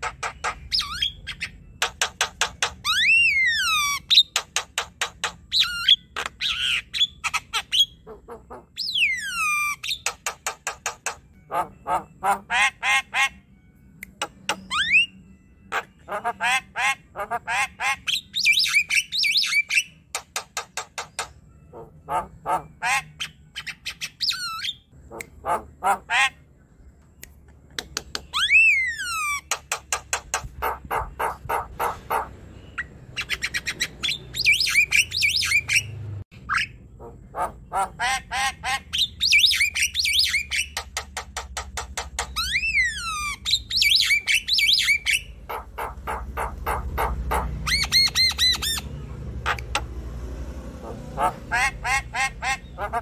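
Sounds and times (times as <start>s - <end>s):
bird singing varied song: 0.0s - 49.9s.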